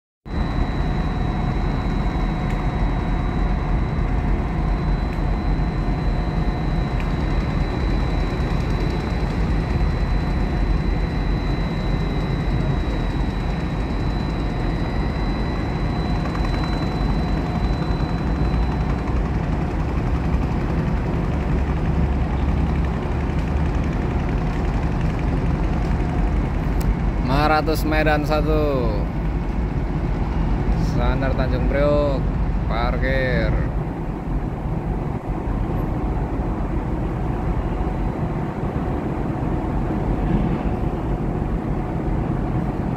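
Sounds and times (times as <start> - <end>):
faint high whine: 0.3 - 42.9
boat engines rumbling: 0.5 - 42.9.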